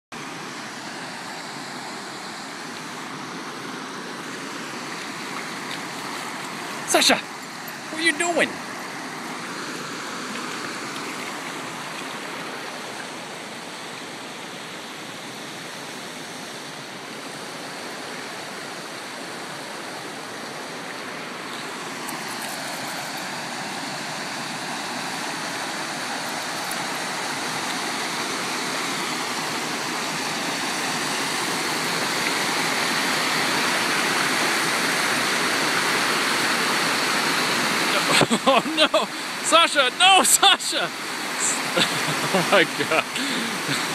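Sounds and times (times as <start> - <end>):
stream rushing over rocks: 0.2 - 43.9.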